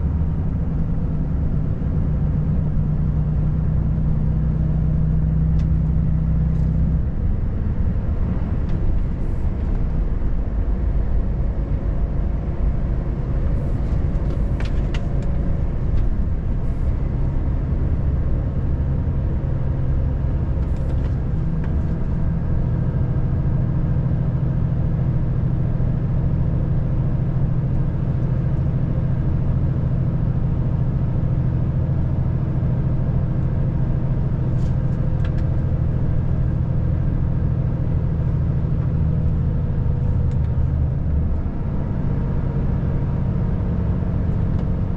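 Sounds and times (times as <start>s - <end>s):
truck diesel engine running: 0.0s - 44.9s
tyre and road noise: 4.4s - 44.9s.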